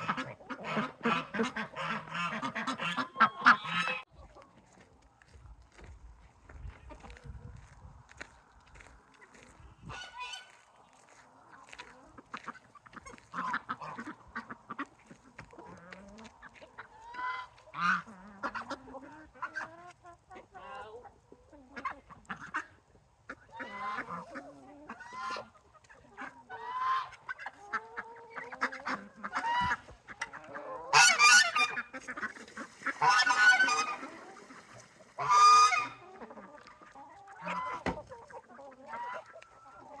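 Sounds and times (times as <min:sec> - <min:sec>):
geese honking: 0:00.0 - 0:04.6, 0:09.2 - 0:10.7, 0:11.4 - 0:21.1, 0:21.7 - 0:40.0.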